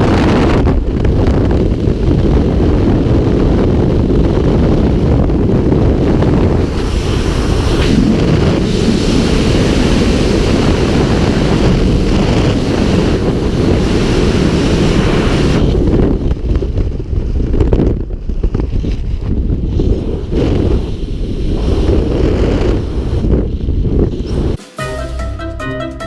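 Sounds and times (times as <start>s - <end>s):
wind buffeting microphone: 0.0s - 24.6s.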